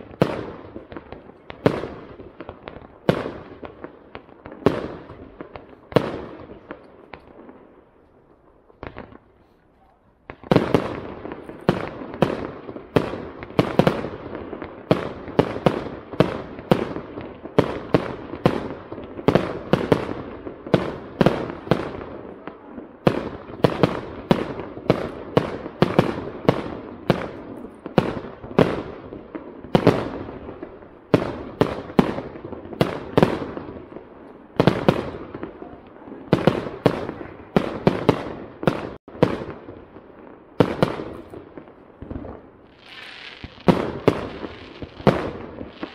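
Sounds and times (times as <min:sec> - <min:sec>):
fireworks bursting: 0:00.0 - 0:45.9.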